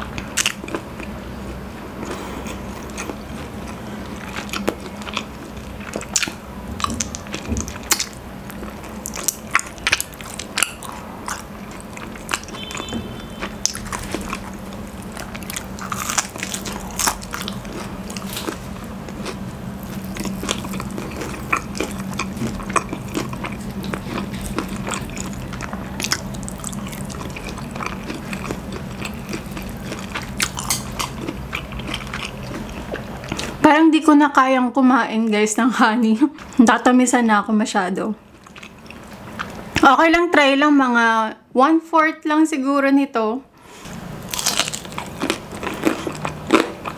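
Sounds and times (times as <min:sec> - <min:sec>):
faint steady hum: 0:00.0 - 0:46.9
crunchy chewing: 0:00.1 - 0:33.6, 0:38.3 - 0:39.8, 0:43.9 - 0:46.9.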